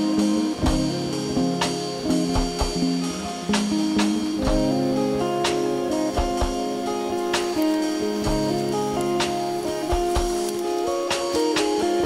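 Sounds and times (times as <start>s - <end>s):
guitar music with drum beat: 0.0s - 12.0s.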